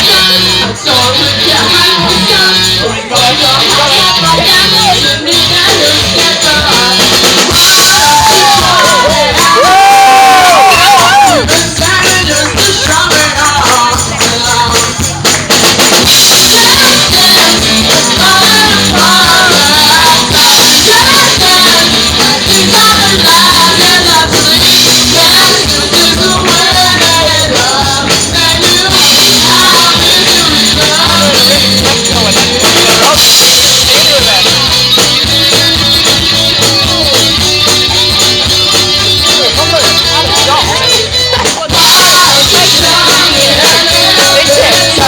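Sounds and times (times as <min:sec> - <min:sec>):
person singing: 0:00.0 - 0:15.4, 0:16.0 - 0:38.2, 0:38.9 - 0:45.0
live rock band playing: 0:00.0 - 0:45.0.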